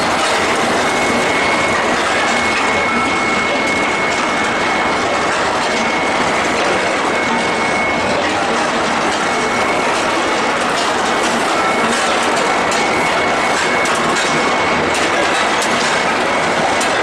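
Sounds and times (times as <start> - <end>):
loud machinery din: 0.0 - 17.0.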